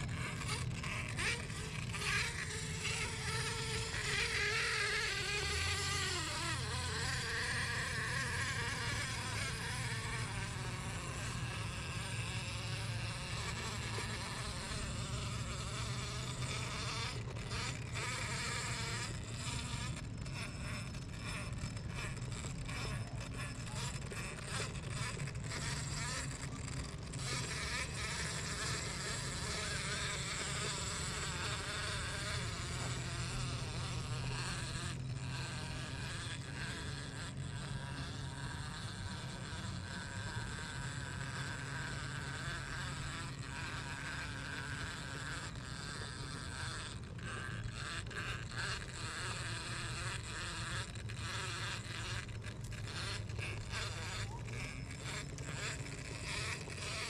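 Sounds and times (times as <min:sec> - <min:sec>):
rc car electric motor running: 0:00.0 - 0:57.0.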